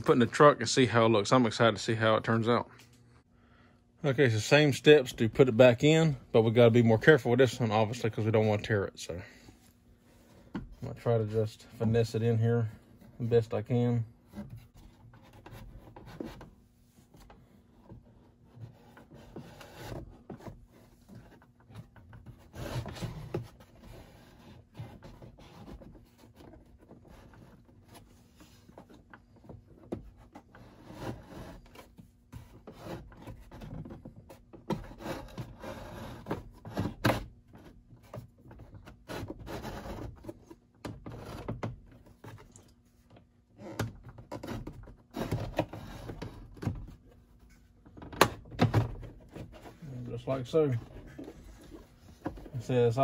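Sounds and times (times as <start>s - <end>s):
rubbing and scraping: 4.1s - 53.0s.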